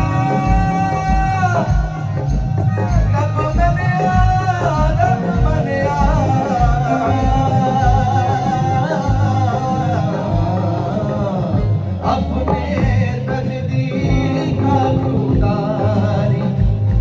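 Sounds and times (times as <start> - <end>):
instrumental backing: 0.0 - 17.0
man singing ornamented melody: 0.0 - 17.0
steady low drum beat: 0.0 - 17.0.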